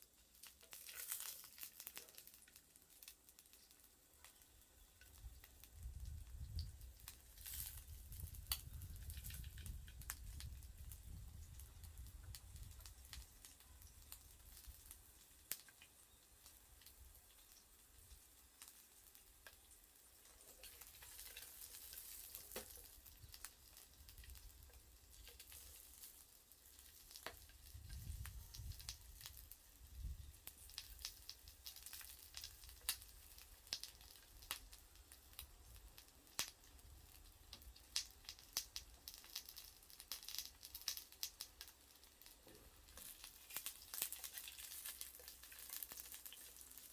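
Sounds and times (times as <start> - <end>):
sausages sizzling: 0.0 - 46.9
wood fire crackling and popping: 0.0 - 46.9.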